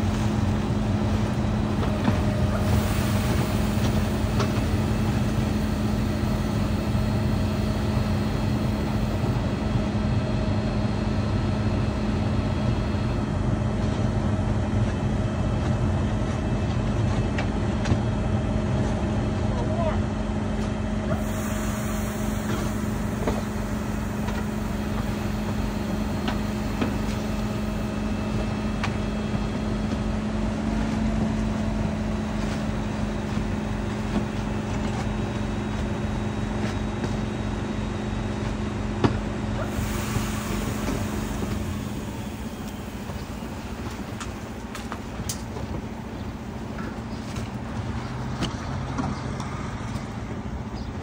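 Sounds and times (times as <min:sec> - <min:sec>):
truck engine droning: 0:00.0 - 0:51.0.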